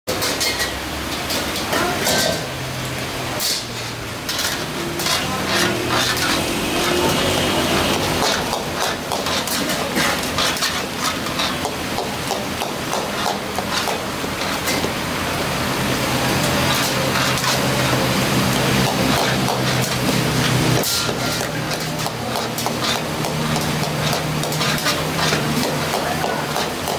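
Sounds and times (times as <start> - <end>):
metal ladle scraping a pan: 0.1 - 2.6, 3.4 - 26.9
food frying in a wok: 0.1 - 26.9.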